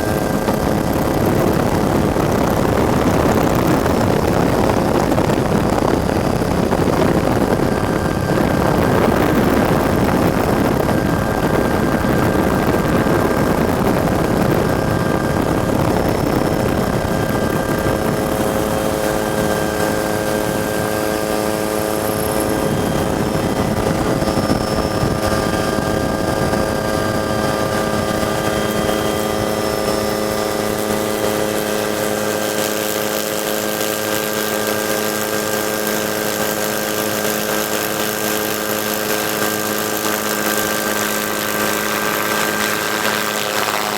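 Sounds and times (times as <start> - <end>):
helicopter turbine and rotors: 0.0 - 43.9
whining tones: 0.0 - 43.9.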